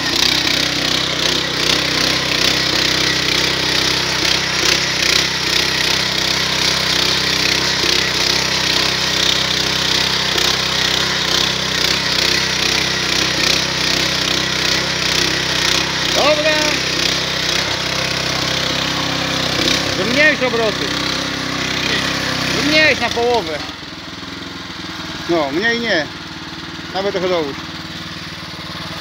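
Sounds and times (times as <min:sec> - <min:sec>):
petrol tiller running: 0:00.0 - 0:29.0.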